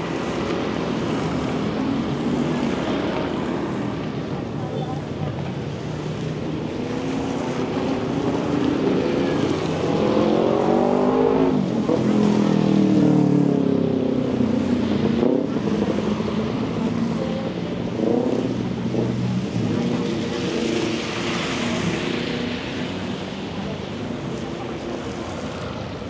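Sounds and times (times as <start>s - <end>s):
vehicle engines passing: 0.0s - 26.0s.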